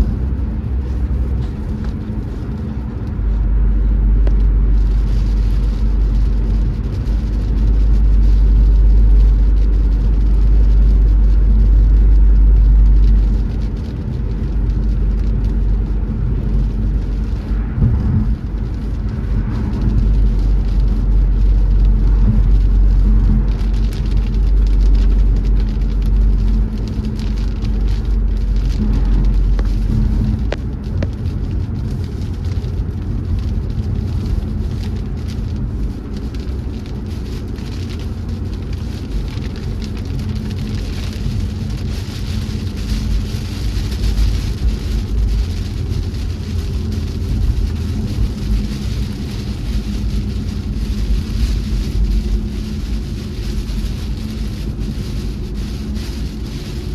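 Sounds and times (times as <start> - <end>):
road and engine rumble: 0.0 - 56.9
tyres hissing on wet road: 0.0 - 56.9.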